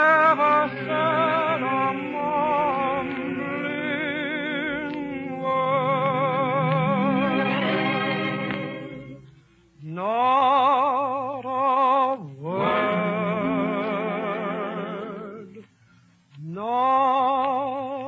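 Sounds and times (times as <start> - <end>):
vocal group singing in harmony: 0.0 - 9.3, 10.0 - 15.7.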